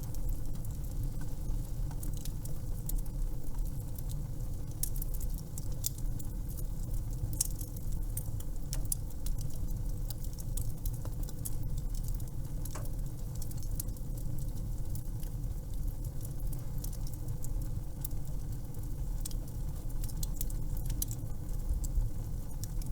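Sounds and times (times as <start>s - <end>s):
low rumble of fire: 0.0s - 22.9s
wood fire crackling and popping: 0.0s - 22.9s.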